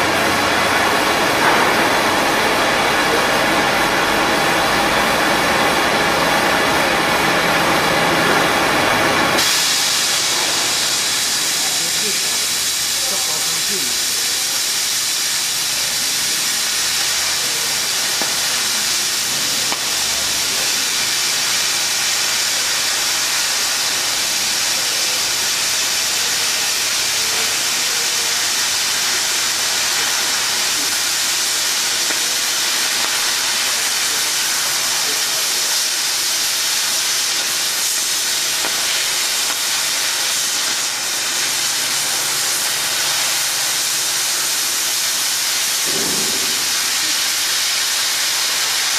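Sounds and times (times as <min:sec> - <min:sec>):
cutting torch hissing: 0:00.0 - 0:48.9.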